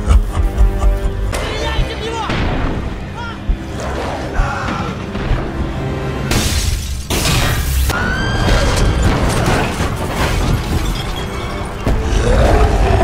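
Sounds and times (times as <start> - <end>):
dramatic score music: 0.0 - 13.0.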